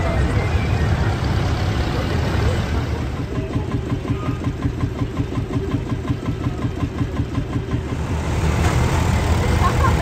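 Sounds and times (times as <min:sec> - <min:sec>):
tractor engine idling: 0:00.0 - 0:10.0.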